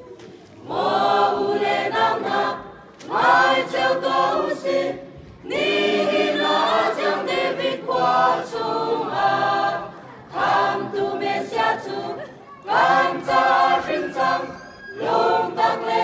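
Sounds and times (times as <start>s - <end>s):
mixed choir singing a cappella: 0.6s - 16.0s.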